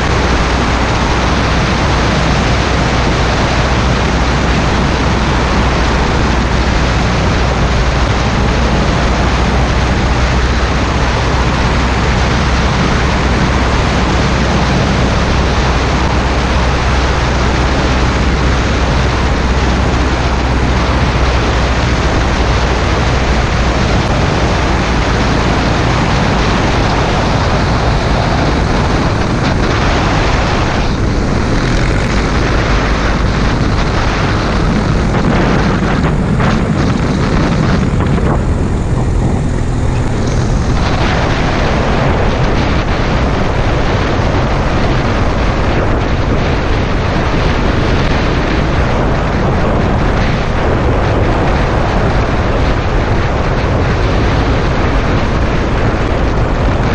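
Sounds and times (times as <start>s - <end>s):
airplane engine and propeller drone: 0.0s - 56.9s
wind rushing on microphone: 0.0s - 56.9s.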